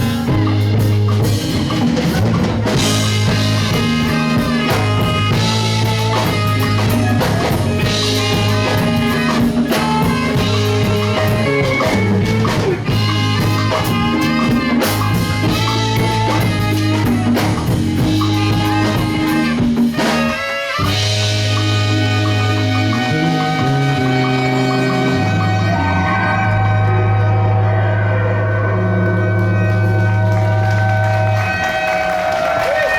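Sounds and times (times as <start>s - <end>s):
sustained low bass notes: 0.0s - 31.5s
live rock band playing: 0.0s - 32.9s.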